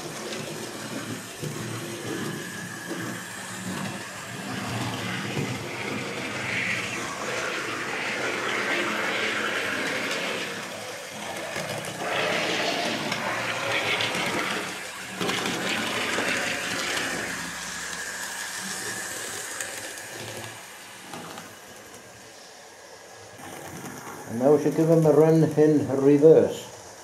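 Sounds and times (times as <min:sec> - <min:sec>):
model train motor whirring: 0:00.0 - 0:27.0.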